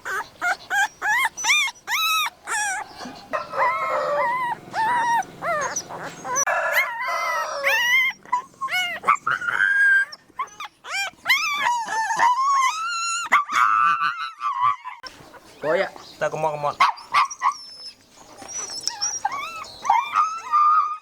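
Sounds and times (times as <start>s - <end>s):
puppies whining and yelping: 0.0s - 15.6s, 16.9s - 21.0s.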